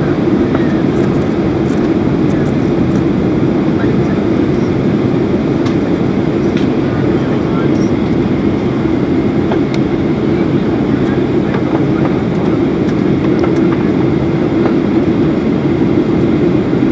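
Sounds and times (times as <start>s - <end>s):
airplane cabin rushing hum: 0.0s - 16.9s.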